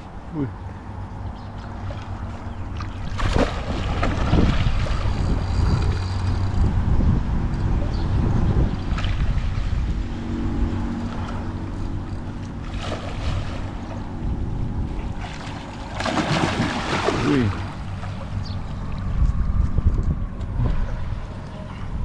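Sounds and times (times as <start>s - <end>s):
water splashing and churning: 0.0s - 6.9s, 8.5s - 19.4s
wind rumble on microphone: 0.0s - 22.0s.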